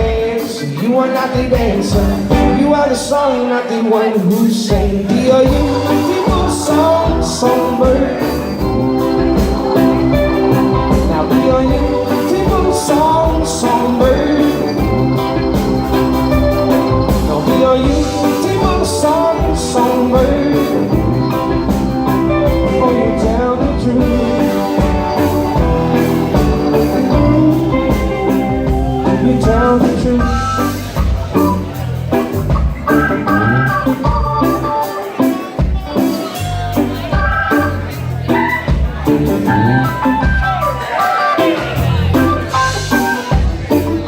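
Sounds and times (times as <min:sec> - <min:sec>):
steady drum beat: 0:00.0 - 0:03.0, 0:04.1 - 0:44.0
live rock band playing: 0:00.0 - 0:44.0.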